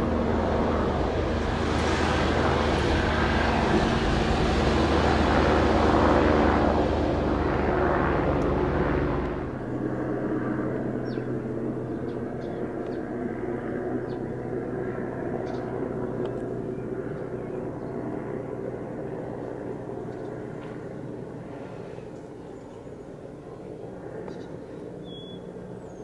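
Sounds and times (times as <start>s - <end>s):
helicopter flying past: 0.0s - 26.0s.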